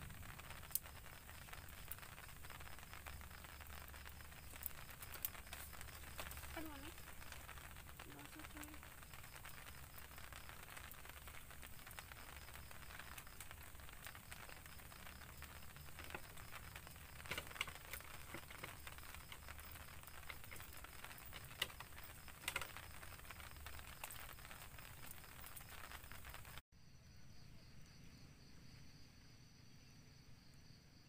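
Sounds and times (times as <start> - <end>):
light rain pattering: 0.0 - 26.6
water drips ticking: 0.0 - 26.6.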